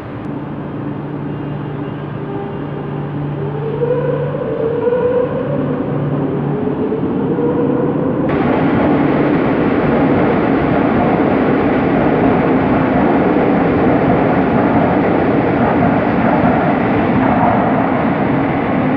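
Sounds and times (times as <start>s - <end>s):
electric train rumbling: 0.0s - 18.9s.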